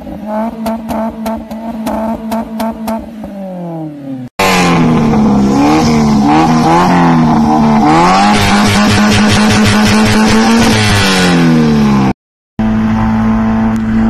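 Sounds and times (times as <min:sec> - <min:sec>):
car engine revs falling: 0:00.0 - 0:11.6
car engine revving: 0:00.0 - 0:14.0.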